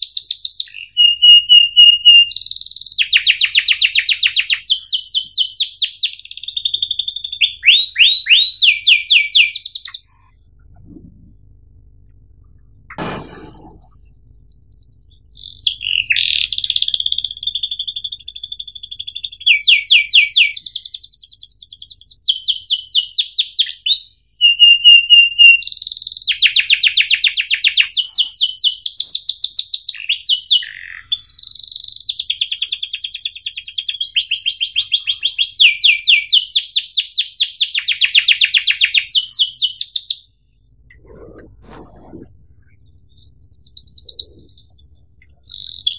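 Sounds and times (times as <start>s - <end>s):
canary singing trills: 0.0s - 11.3s, 12.6s - 45.9s.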